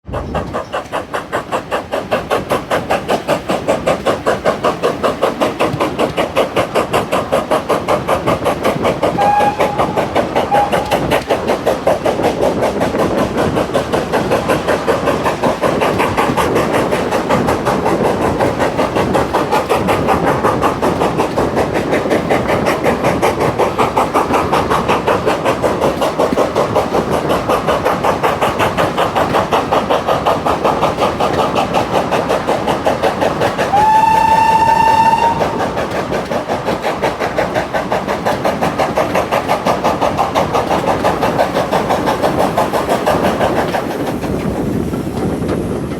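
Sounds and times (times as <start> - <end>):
steam locomotive chuffing: 0.0 - 45.9.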